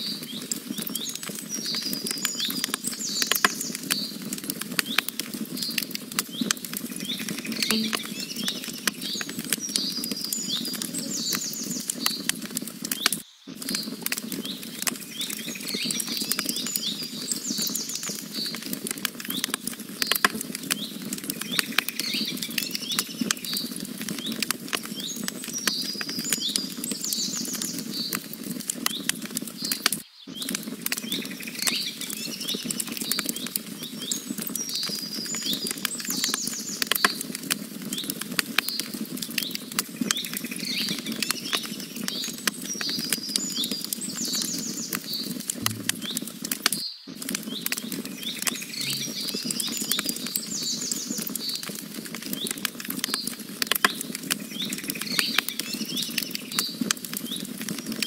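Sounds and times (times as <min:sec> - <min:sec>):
campfire crackling and popping: 0:00.0 - 0:58.0
small birds chirping: 0:00.0 - 0:58.0.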